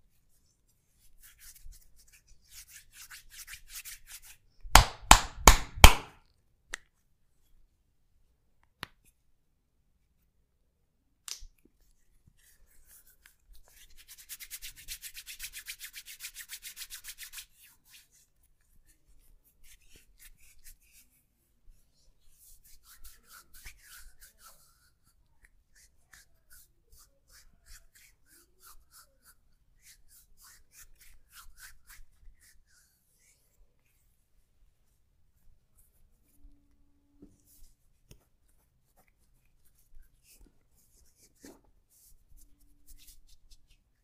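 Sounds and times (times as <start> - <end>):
hands rubbing in massage strokes: 0.2 - 6.1, 11.8 - 44.0.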